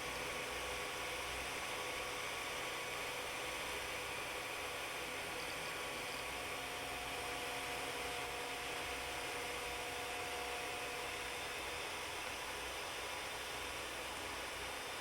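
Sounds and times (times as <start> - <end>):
faint motor whine: 0.0 - 15.0.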